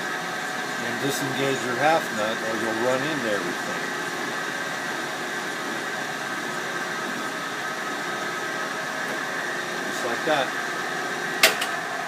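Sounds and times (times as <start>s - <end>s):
metal lathe motor whine: 0.0s - 12.0s.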